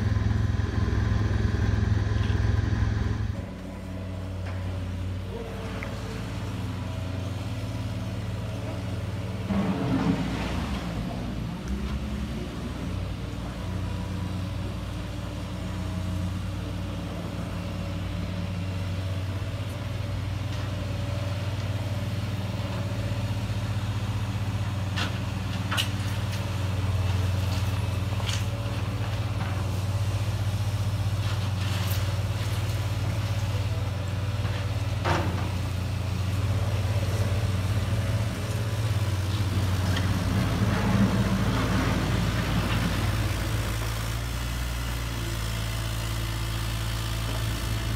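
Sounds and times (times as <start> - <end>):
vehicle engine drone: 0.0 - 47.9.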